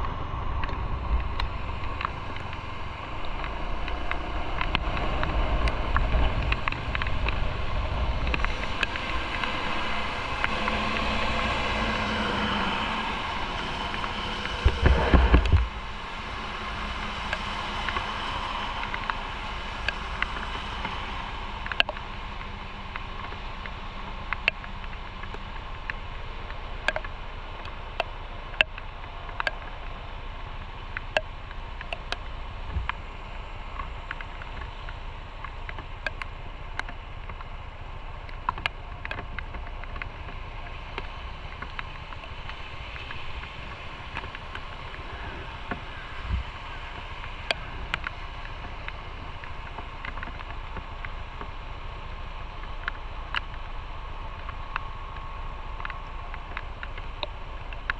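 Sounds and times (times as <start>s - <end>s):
motorcycle engine and road drone: 0.0s - 57.9s
sharp irregular clicks: 0.0s - 57.9s.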